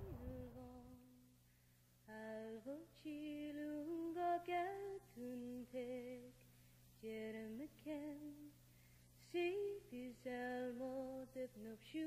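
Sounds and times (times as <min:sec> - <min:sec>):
woman singing unaccompanied lullaby: 0:02.0 - 0:12.0.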